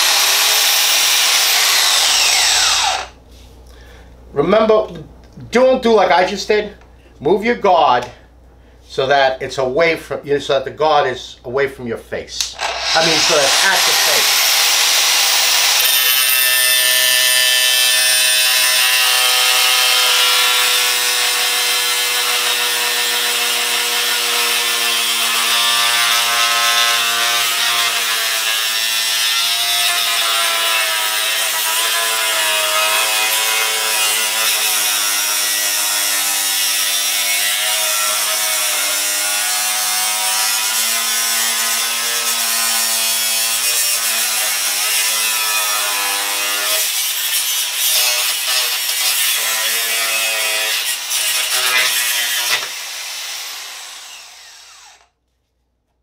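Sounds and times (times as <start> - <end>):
angle grinder cutting metal: 0.0 - 3.2, 12.4 - 55.1.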